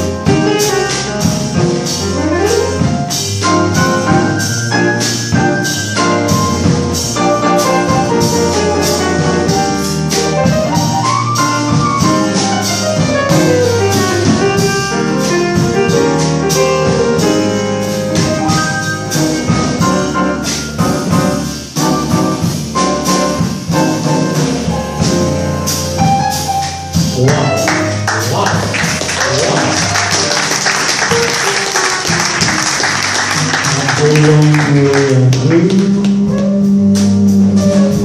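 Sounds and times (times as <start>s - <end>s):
drum kit: 0.0s - 38.0s
piano: 0.0s - 38.0s
upright double bass: 0.0s - 38.0s.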